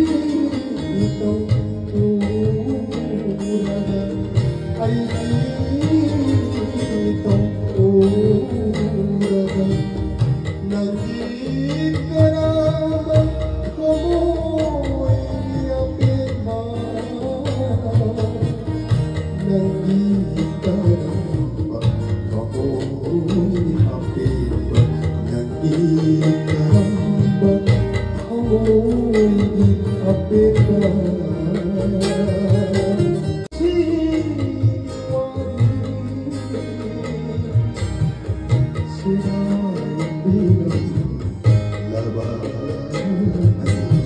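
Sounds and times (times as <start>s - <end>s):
person singing: 0.0s - 44.0s
plucked string instruments: 0.0s - 44.0s
steady percussive beat: 0.0s - 44.0s.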